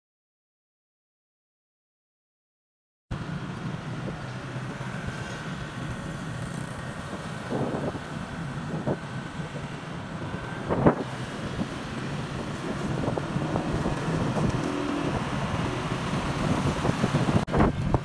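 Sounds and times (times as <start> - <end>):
vehicle engine and road noise: 3.1 - 18.0.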